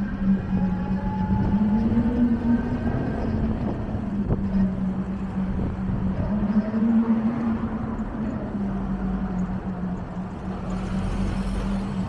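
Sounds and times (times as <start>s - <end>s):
city road traffic hum: 0.0s - 12.0s.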